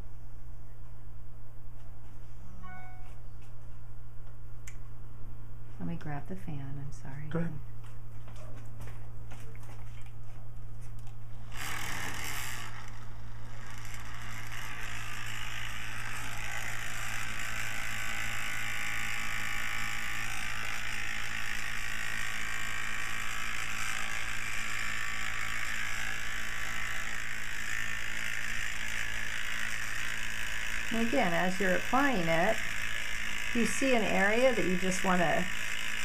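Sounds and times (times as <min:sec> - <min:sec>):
electric fan running: 0:00.0 - 0:36.0.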